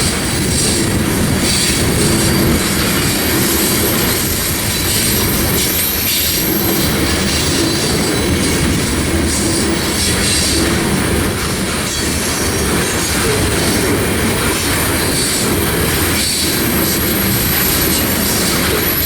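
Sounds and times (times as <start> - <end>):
train wheels rumbling on rails: 0.0 - 19.0
wheels squealing: 0.0 - 19.0.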